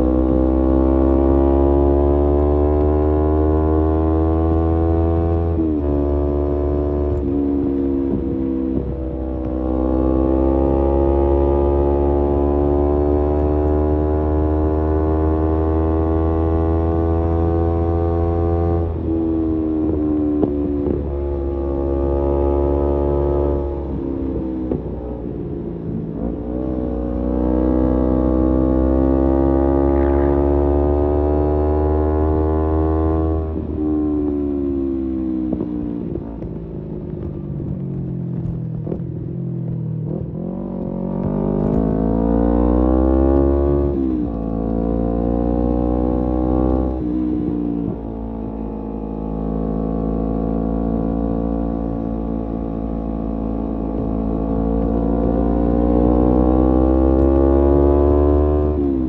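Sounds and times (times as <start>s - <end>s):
motorcycle exhaust: 0.0s - 59.0s.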